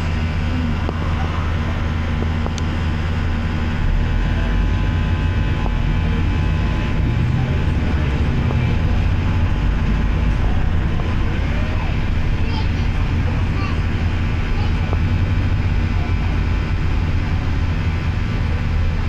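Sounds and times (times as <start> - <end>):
bus engine running: 0.0 - 19.0
loud low buzz: 0.0 - 19.0.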